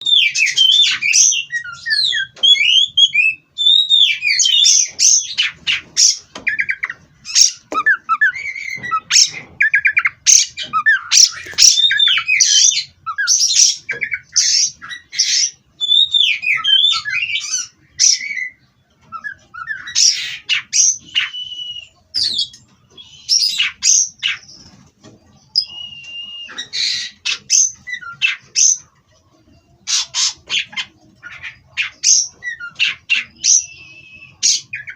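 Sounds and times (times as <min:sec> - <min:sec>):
magpie-robin singing: 0:00.0 - 0:34.9.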